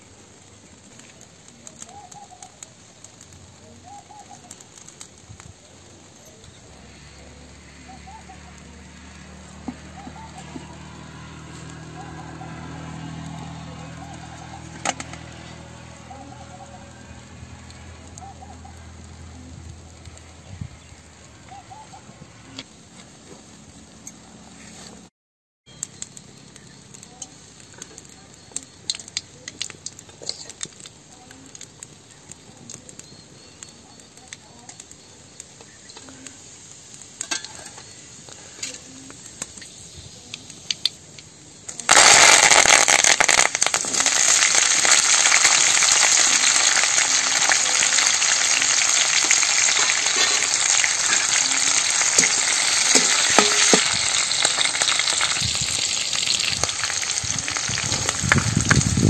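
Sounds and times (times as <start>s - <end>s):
hot oil crackling: 0.0s - 25.1s, 25.7s - 59.0s
loud oil sizzle: 0.0s - 25.1s, 25.7s - 59.0s.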